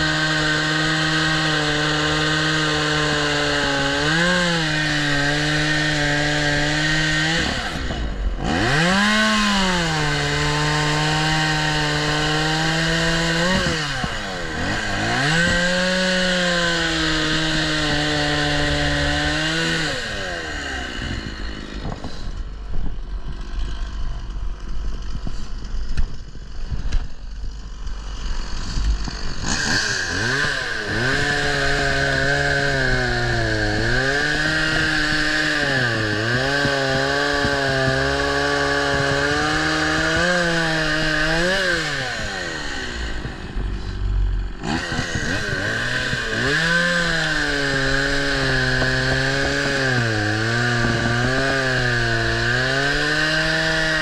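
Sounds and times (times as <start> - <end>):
chainsaw cutting wood: 0.0 - 24.1, 25.0 - 54.0.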